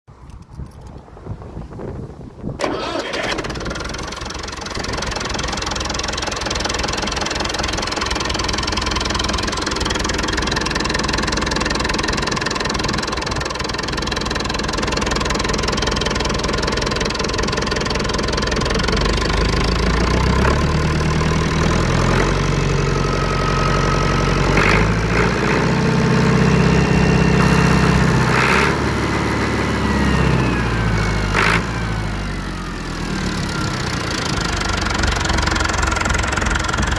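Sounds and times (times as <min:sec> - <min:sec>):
diesel engine idling: 0:02.6 - 0:36.9.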